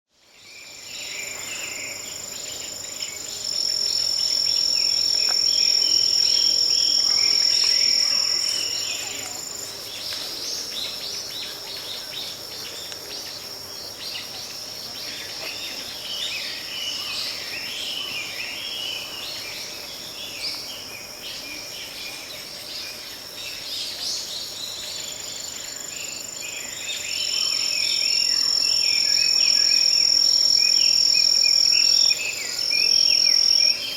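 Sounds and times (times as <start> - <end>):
insects trilling: 0.2 - 33.9.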